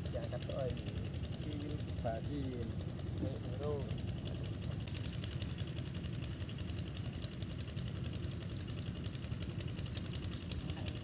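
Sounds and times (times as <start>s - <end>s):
low engine-like rumble: 0.0s - 11.0s.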